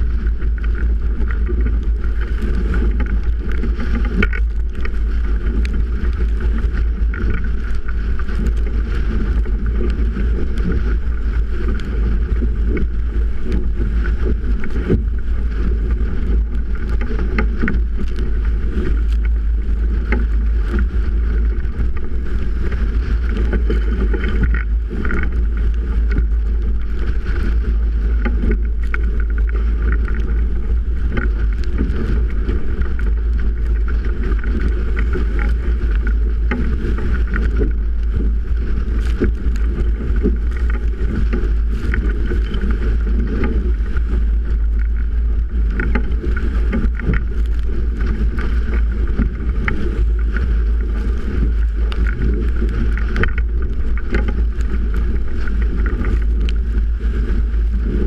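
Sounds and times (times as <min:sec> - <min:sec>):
strong wind buffeting microphone: 0:00.0 - 0:58.0
waves splashing against hull: 0:00.0 - 0:58.0.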